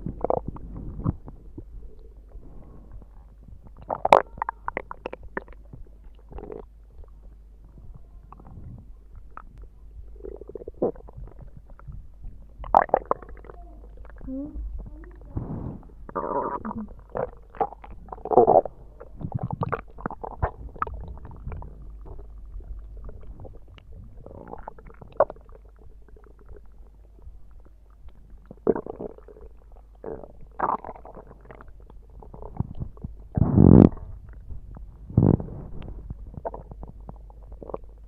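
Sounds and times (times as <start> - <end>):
stomach growling: 0.0 - 38.0.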